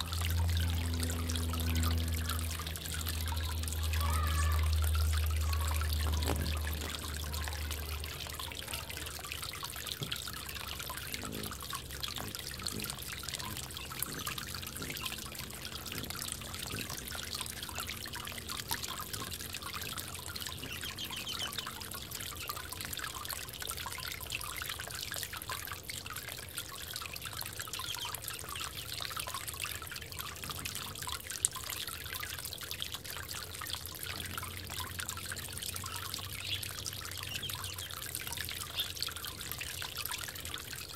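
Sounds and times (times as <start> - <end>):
water trickling in bird bath: 0.0 - 40.9.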